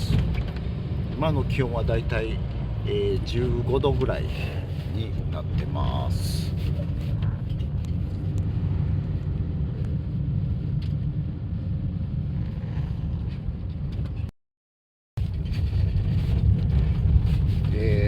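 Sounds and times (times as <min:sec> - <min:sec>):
car engine and road noise: 0:00.0 - 0:14.3, 0:15.2 - 0:18.0.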